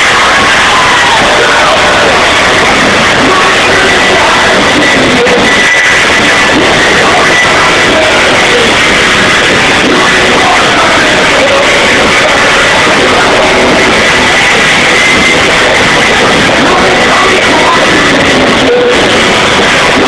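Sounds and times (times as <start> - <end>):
loud distorted rock band: 0.0 - 20.0.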